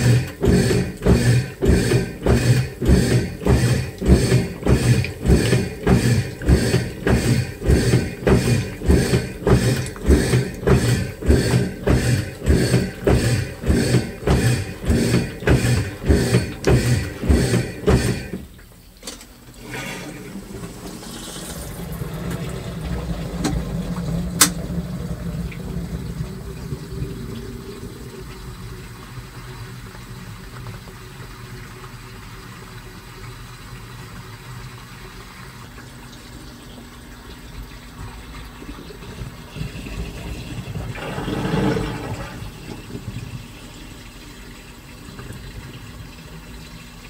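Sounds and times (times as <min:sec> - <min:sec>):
washing machine motor hum: 0:00.0 - 0:47.0
water churning in drum: 0:00.0 - 0:47.0.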